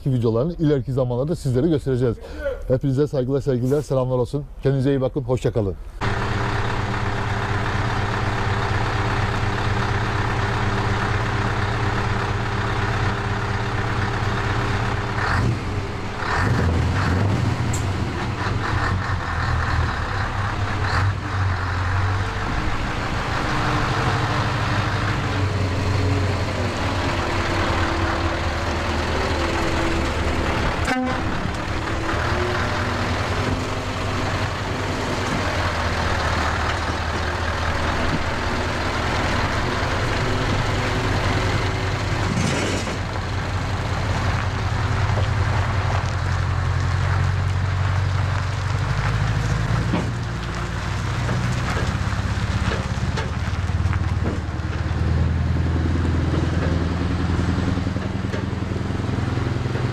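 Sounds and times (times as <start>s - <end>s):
diesel truck engine: 5.6s - 59.9s.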